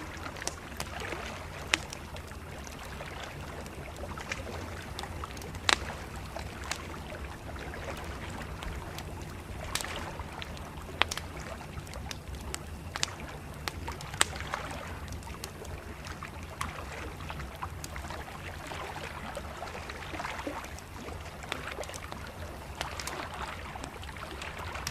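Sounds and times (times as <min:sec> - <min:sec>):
campfire crackling and popping: 0:00.0 - 0:24.9
river water lapping: 0:00.0 - 0:24.9.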